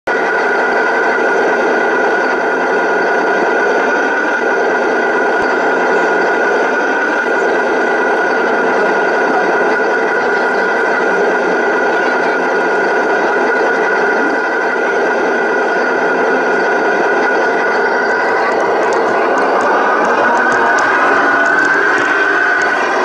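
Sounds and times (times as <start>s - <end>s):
model truck motor humming and whining: 0.1s - 23.0s.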